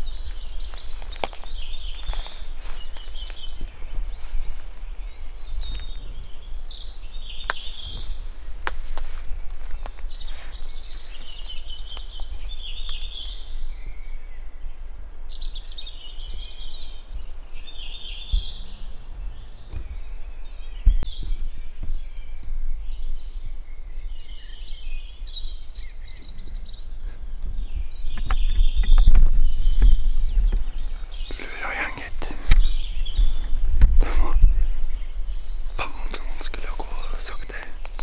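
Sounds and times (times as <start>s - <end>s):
songbirds singing: 0.0s - 38.0s.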